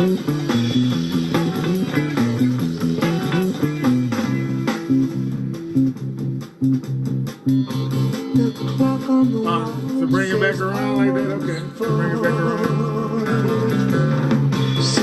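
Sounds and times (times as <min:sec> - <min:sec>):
electric bass line: 0:00.0 - 0:15.0
electric guitar: 0:00.0 - 0:15.0.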